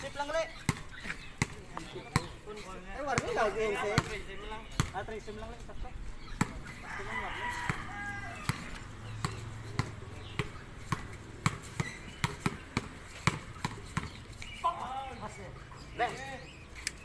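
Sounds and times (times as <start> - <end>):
basketball bouncing on concrete: 0.0 - 5.5, 6.2 - 14.4.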